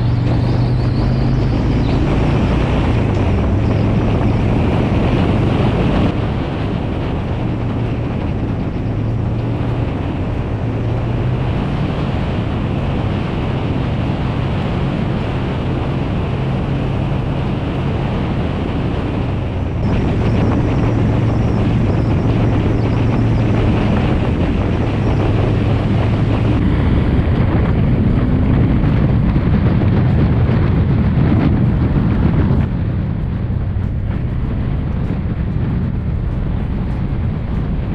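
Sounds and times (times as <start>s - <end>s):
motorcycle engine cruising: 0.0s - 37.9s
wind buffeting microphone: 0.0s - 37.9s.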